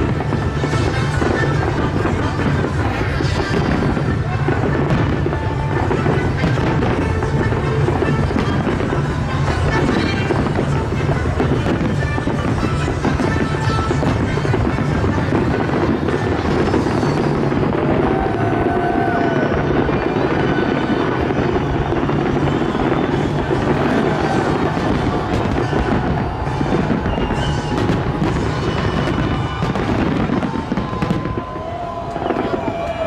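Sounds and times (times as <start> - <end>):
music: 0.0 - 31.5
firework whistles: 0.0 - 33.0
fireworks bangs and crackles: 0.0 - 33.0.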